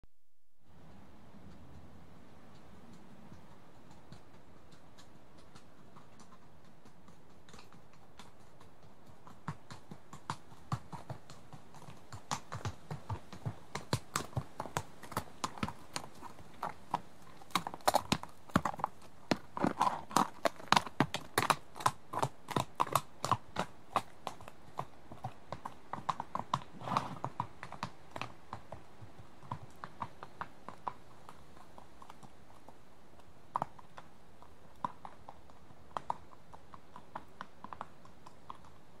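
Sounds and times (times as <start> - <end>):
horse hoofbeats clip-clop: 0.8 - 39.0.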